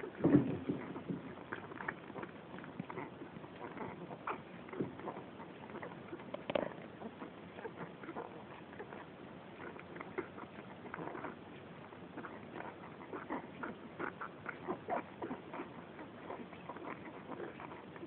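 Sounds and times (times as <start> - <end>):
puppies squeaking: 0.0 - 18.0
puppies suckling and clicking: 0.0 - 18.0.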